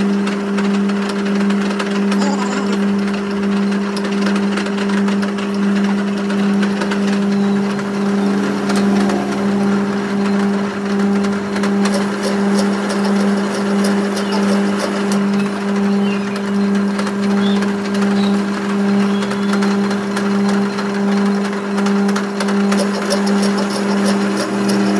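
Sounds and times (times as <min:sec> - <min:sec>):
engine running with low hum: 0:00.0 - 0:24.9.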